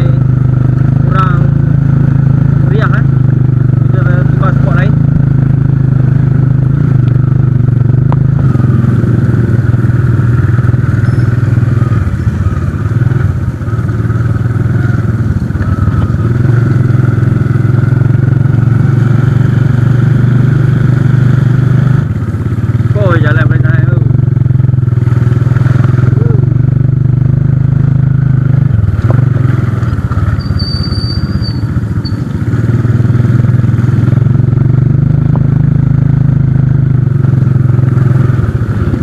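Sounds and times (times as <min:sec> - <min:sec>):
muffled motorcycle engine running: 0:00.0 - 0:39.0.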